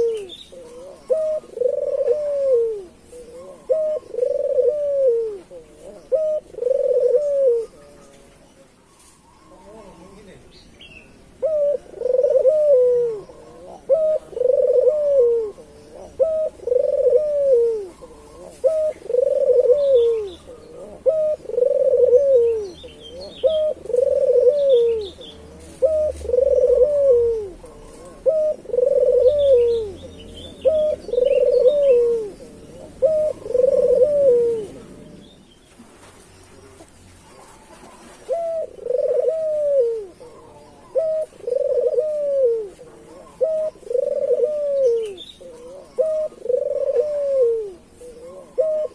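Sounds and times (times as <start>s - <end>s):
dove cooing: 0.0s - 48.9s
small birds chirping: 0.0s - 48.9s.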